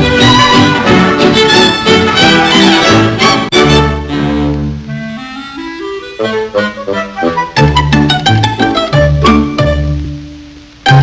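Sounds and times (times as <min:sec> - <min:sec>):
orchestral title music: 0:00.0 - 0:09.5.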